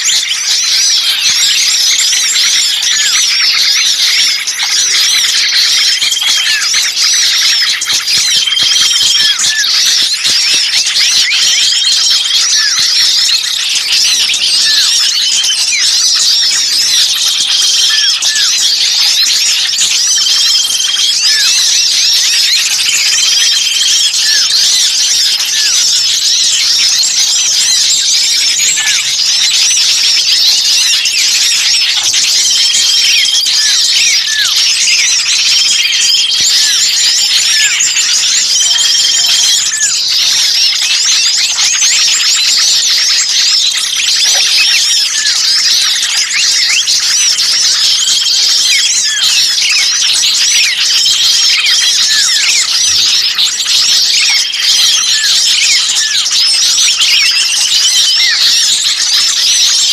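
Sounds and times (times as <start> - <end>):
small songbirds chattering: 0.0 - 59.9.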